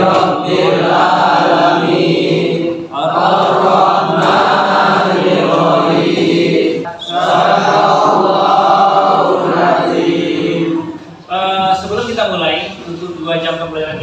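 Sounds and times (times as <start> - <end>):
students reciting in unison: 0.0 - 11.4.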